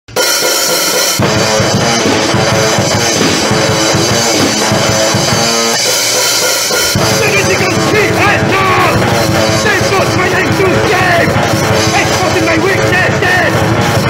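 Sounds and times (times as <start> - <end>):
electric guitar: 0.1 - 14.0
fast drumming: 0.1 - 14.0.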